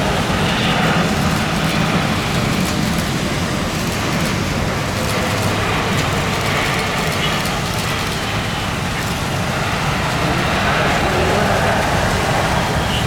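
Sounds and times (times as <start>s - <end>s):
heavy rain: 0.0s - 13.0s
low engine rumble: 0.0s - 13.0s.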